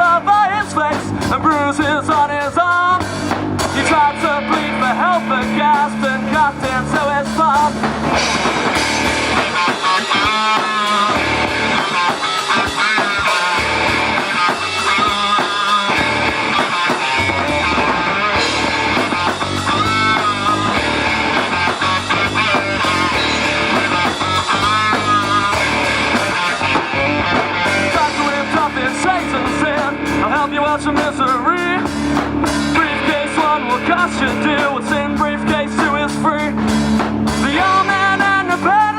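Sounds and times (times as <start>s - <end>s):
electric guitar: 0.0s - 38.9s
live rock band playing: 0.0s - 38.9s.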